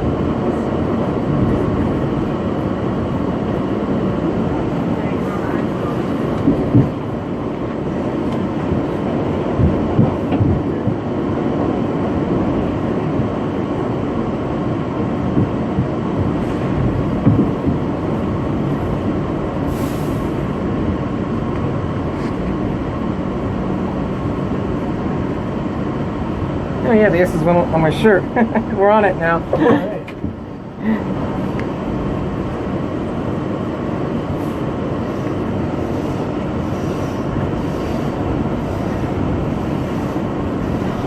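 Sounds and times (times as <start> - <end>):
subway car rumbling: 0.0 - 41.0.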